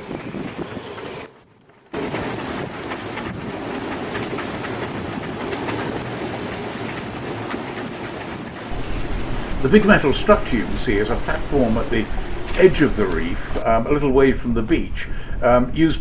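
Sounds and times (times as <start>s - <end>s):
strong wind blasting microphone: 0.0s - 16.0s.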